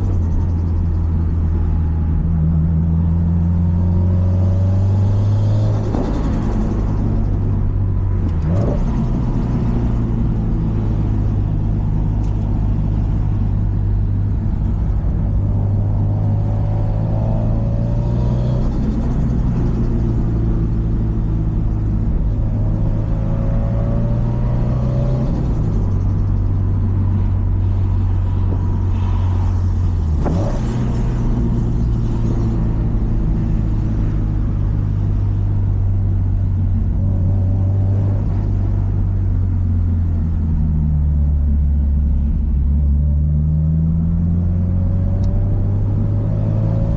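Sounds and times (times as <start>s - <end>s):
car engine rumbling: 0.0s - 46.9s.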